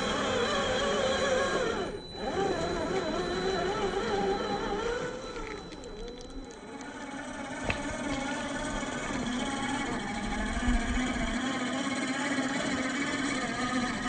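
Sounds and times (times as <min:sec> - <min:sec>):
toy truck motor whining: 0:00.0 - 0:14.0.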